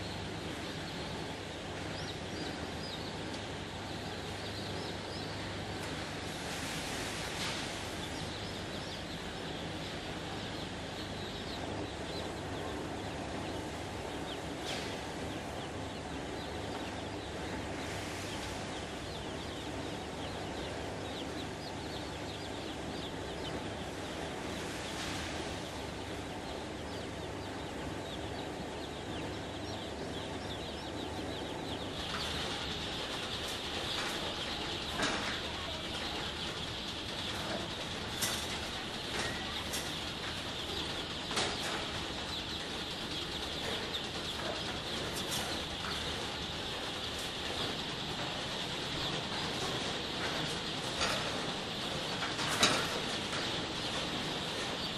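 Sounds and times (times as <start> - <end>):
chicks peeping: 0.0 - 54.9
conveyor machinery hum: 0.0 - 54.9.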